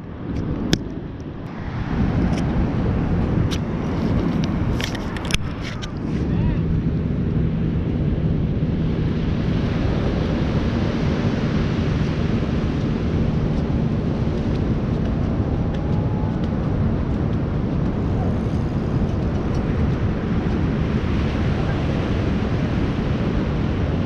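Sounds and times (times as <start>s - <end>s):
wind rumbling on microphone: 0.0s - 24.0s
ocean surf: 1.3s - 24.0s.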